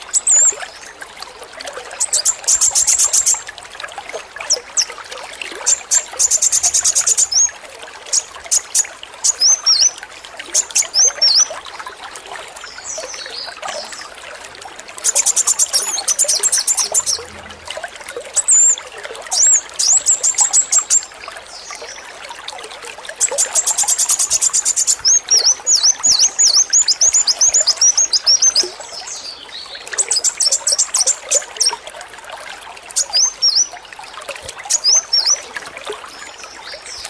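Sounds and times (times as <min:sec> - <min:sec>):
trickle of running water: 0:00.0 - 0:37.0.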